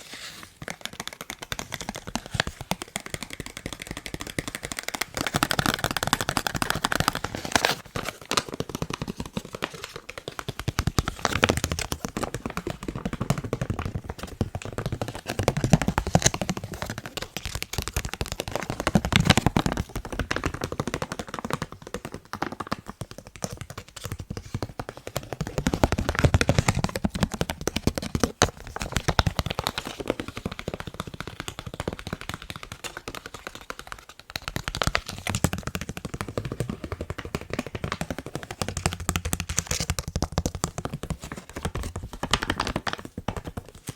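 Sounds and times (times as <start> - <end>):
fingertips tapping on face mask: 0.5 - 43.9.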